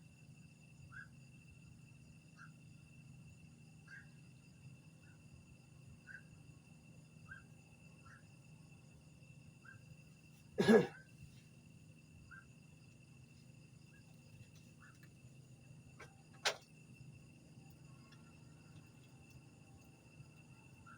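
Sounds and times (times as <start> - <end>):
night insects droning: 0.0 - 20.9.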